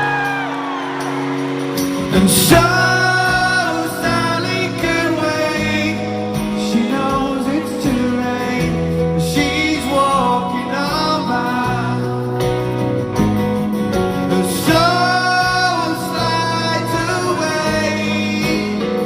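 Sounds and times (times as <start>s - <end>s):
person singing: 0.0s - 12.9s, 14.3s - 19.0s
live rock band playing: 0.0s - 19.0s.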